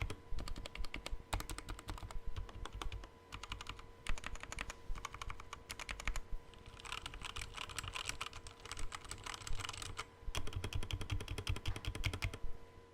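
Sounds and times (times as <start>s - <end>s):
mechanical keyboard typing: 0.0s - 12.4s.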